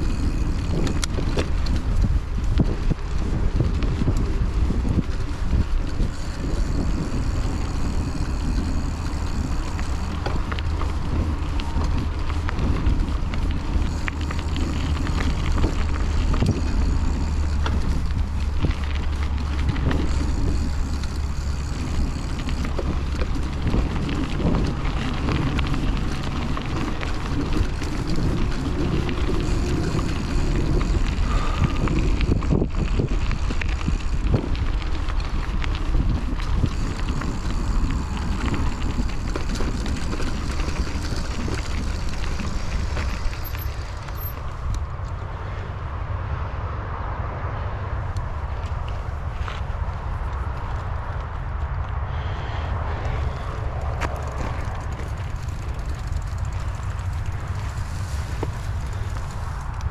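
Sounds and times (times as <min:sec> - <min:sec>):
mountain bike rumble and rattles: 0:00.0 - 0:59.9
wind buffeting microphone: 0:00.0 - 0:59.9.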